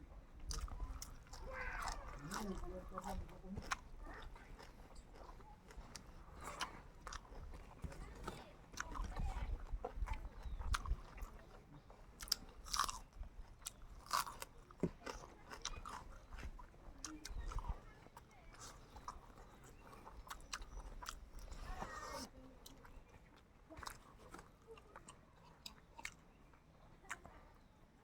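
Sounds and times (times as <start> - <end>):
chewing and biting chicken: 0.4 - 28.0.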